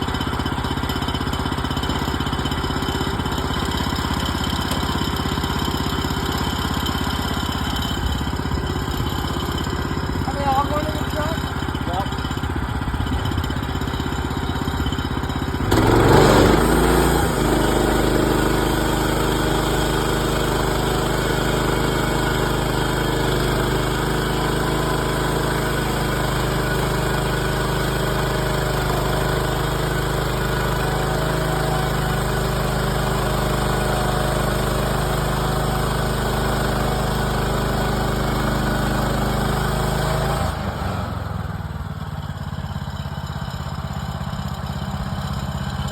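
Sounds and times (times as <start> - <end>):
gas engine idling and revving: 0.0 - 45.9.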